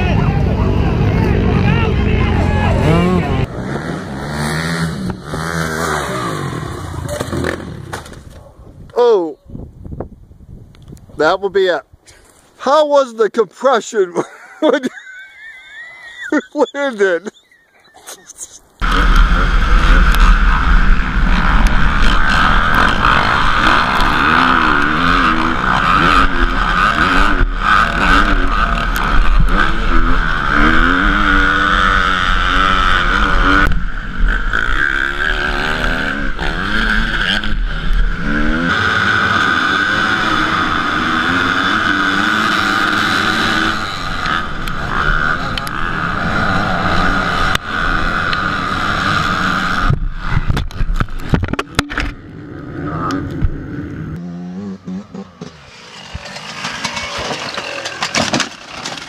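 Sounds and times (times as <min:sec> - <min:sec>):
dirt bike engine revving: 0:00.0 - 0:08.3, 0:18.8 - 0:59.0
other dirt bikes running nearby: 0:00.0 - 0:08.7, 0:18.8 - 0:59.0.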